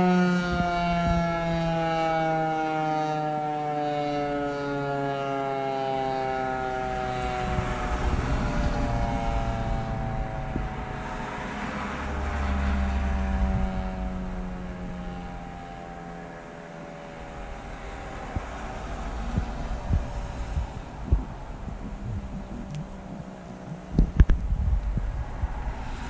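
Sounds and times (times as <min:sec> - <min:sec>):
warning siren sliding down in pitch: 0:00.0 - 0:24.3
wind rumble on microphone: 0:00.3 - 0:02.5, 0:06.4 - 0:16.4, 0:17.0 - 0:26.0.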